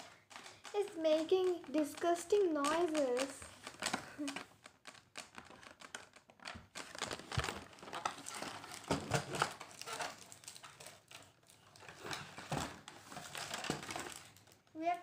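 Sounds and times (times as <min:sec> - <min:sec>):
cardboard packaging rustling: 0:00.0 - 0:15.0.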